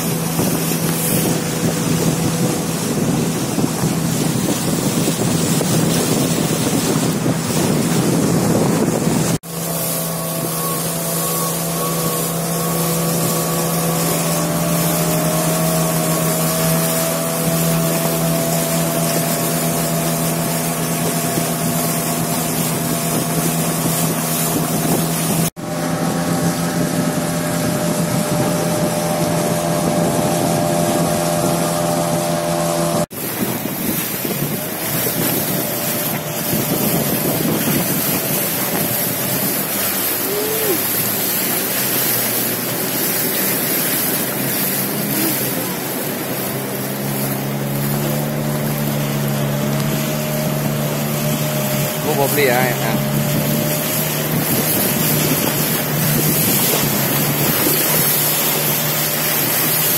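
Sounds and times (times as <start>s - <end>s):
outboard engine running: 0.0s - 59.9s
water rushing along hull: 0.0s - 59.9s
wind on microphone: 0.0s - 59.9s.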